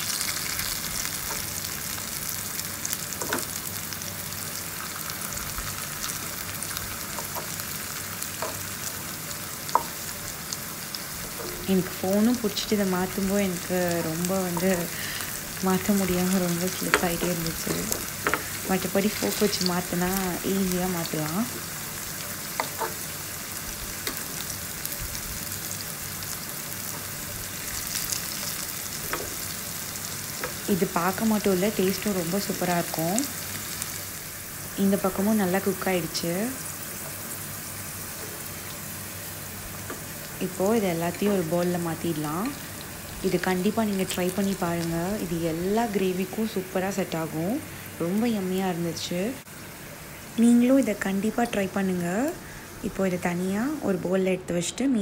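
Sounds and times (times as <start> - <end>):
potato slices sizzling in oil: 0.0 - 54.3.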